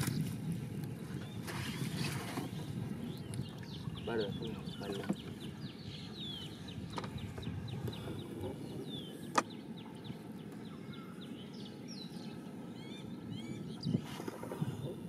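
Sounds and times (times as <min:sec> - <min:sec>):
low wind and water rumble: 0:00.0 - 0:15.0.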